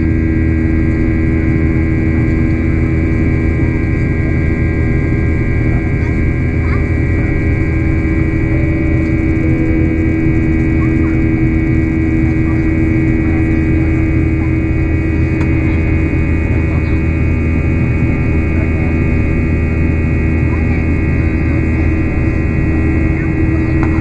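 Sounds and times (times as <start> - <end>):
jet engine drone in cabin: 0.0 - 24.0.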